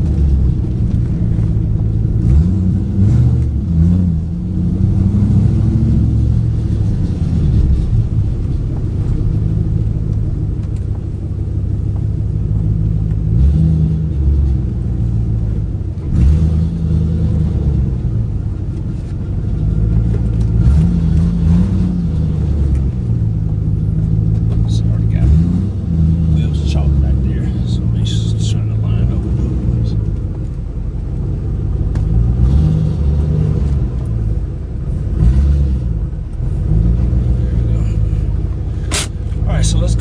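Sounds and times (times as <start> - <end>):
misfiring car engine: 0.0 - 40.0.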